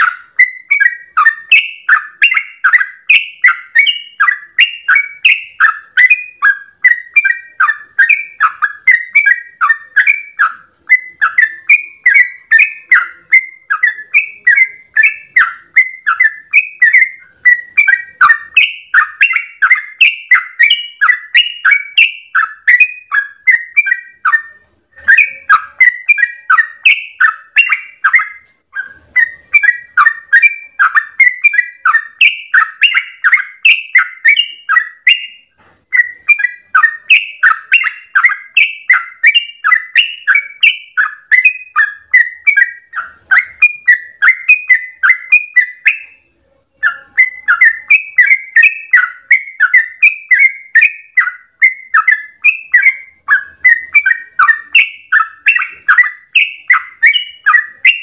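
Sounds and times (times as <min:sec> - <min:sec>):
bird singing fast notes: 0:00.0 - 0:58.0.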